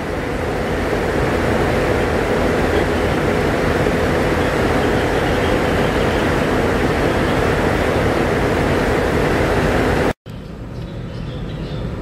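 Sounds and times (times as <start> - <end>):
loud rushing noise: 0.0 - 10.2
faint constant hum: 0.0 - 12.0.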